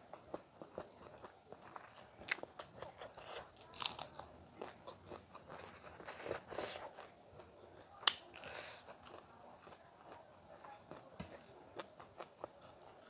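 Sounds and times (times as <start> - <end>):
person chewing crunchy food: 0.1 - 10.2, 10.9 - 13.0.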